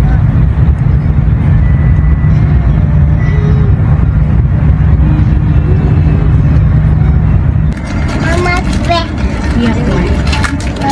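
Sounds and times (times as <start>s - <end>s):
train carriage low rumble: 0.0s - 10.9s.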